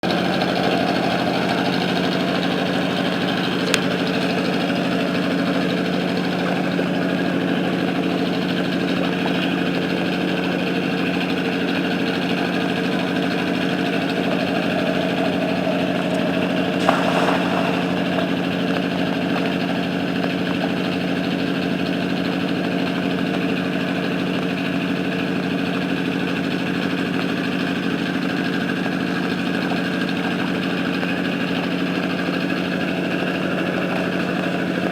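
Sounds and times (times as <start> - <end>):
small engine running: 0.0 - 34.9.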